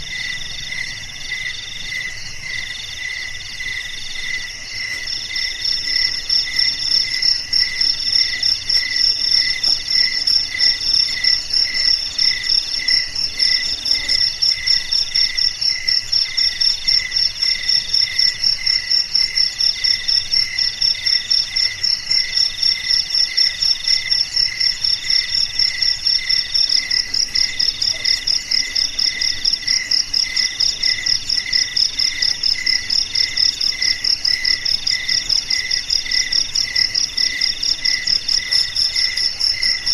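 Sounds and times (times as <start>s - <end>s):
lower cricket chirp: 0.0s - 39.9s
mid-pitched cricket trill: 0.0s - 39.9s.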